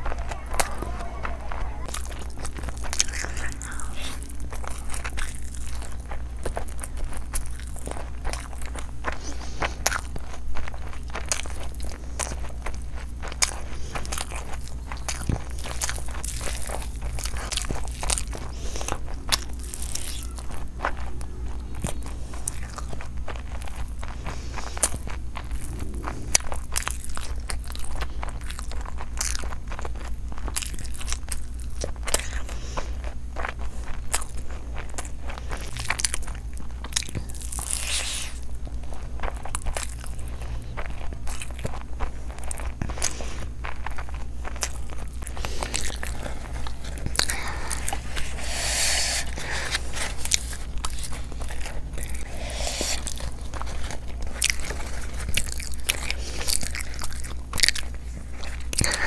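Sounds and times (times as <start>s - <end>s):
close-miked chewing: 0.0s - 59.0s
crunching: 0.0s - 59.0s
steady low hum: 0.0s - 59.0s.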